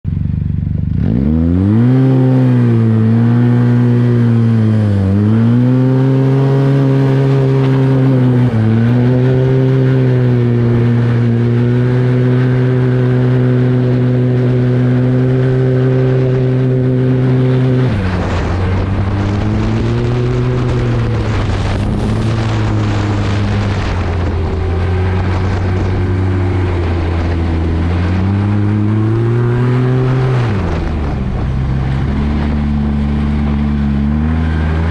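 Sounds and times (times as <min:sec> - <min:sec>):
snowmobile engine running: 0:00.1 - 0:34.9
rushing noise: 0:02.5 - 0:34.9.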